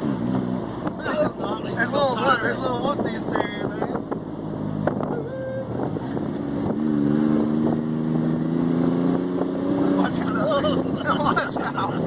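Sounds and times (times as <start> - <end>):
pickup engine accelerating: 0.0 - 12.0
wind and road noise: 0.0 - 12.0.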